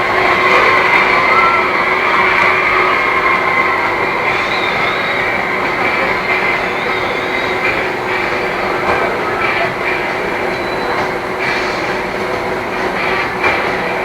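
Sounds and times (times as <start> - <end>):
high-pitched squeal: 0.0 - 13.2
machine running noise: 0.0 - 14.0.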